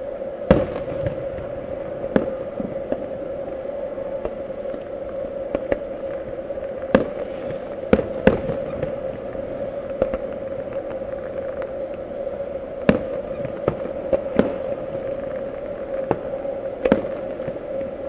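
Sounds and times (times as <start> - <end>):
distant fireworks bursting: 0.0 - 18.0
steady hum: 0.0 - 18.0.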